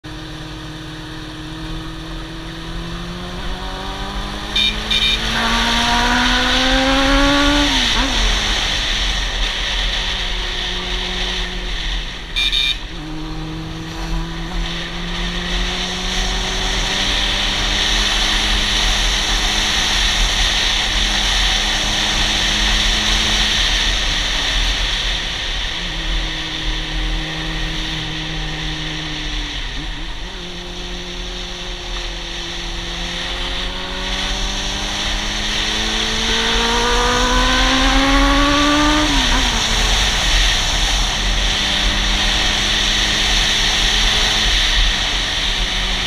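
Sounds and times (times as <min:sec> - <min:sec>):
motorcycle engine revving: 0:00.0 - 0:46.0
wind rushing over microphone: 0:05.2 - 0:46.0.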